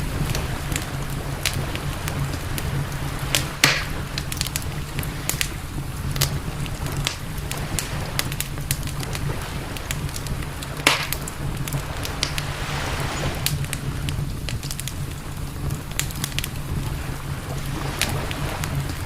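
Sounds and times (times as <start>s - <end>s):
campfire crackling and popping: 0.0s - 19.0s
low rumble: 0.0s - 19.0s.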